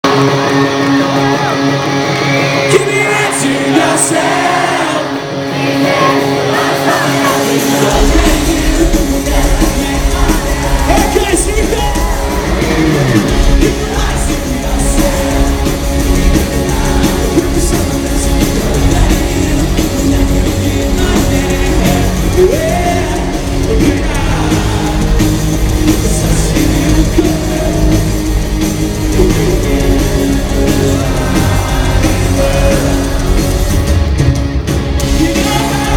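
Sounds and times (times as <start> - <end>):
rock band playing live: 0.0 - 35.9
lead singer singing: 0.1 - 34.1, 34.9 - 35.9.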